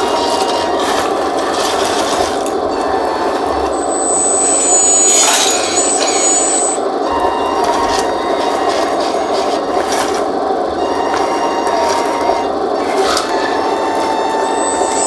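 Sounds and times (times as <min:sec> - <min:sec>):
hydraulic pump and motors whirring: 0:00.0 - 0:15.0
thin high whine: 0:00.0 - 0:15.0.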